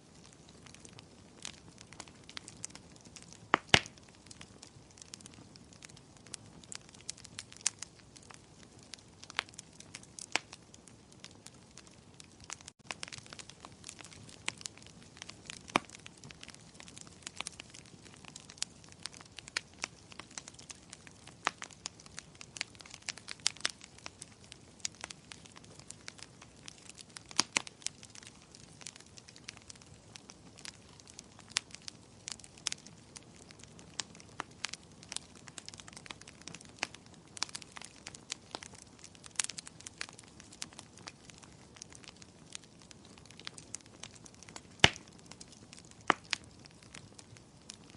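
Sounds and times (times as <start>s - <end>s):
fireplace fire crackling: 0.0s - 47.9s.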